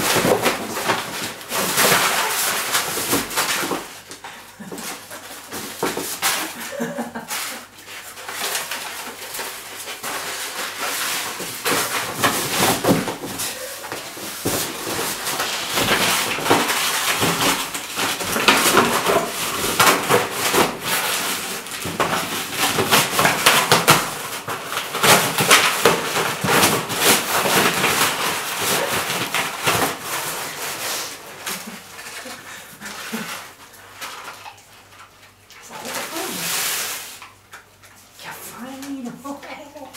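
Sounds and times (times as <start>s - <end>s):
wrapping paper crackling and tearing: 0.0s - 39.9s.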